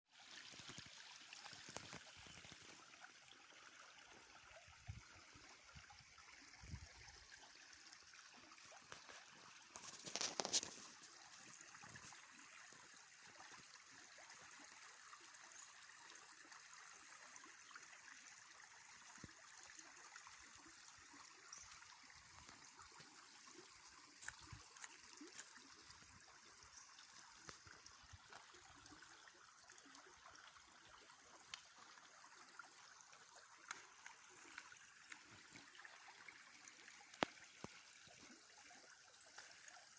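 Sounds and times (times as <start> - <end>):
stream trickling: 0.1 - 39.9.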